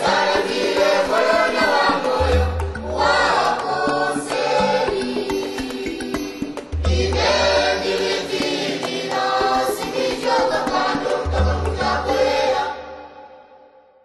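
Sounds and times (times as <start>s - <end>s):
choir singing: 0.0s - 13.8s.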